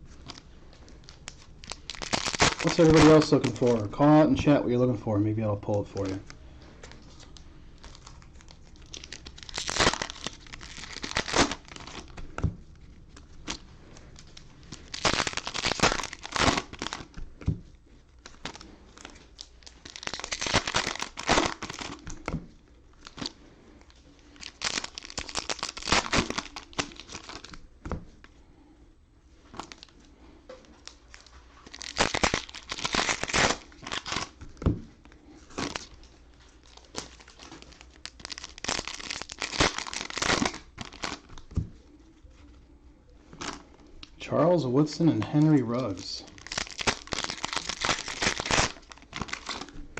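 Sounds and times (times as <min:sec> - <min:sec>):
cellophane crinkling and tearing: 0:00.0 - 0:04.5, 0:05.5 - 0:17.3, 0:18.0 - 0:27.7, 0:29.5 - 0:42.6, 0:43.2 - 0:49.9.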